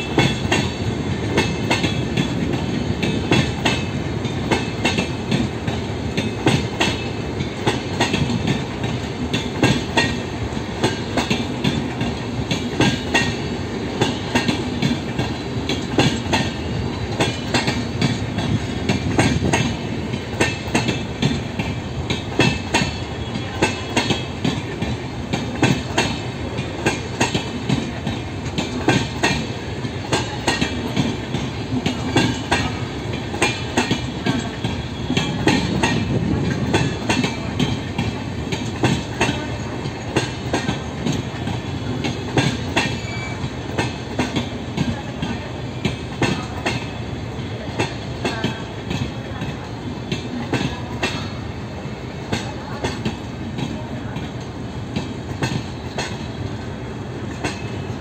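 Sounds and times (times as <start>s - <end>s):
wheels clicking over rail joints: 0.0s - 47.0s, 57.3s - 58.0s
train coaches rumbling past: 0.0s - 58.0s.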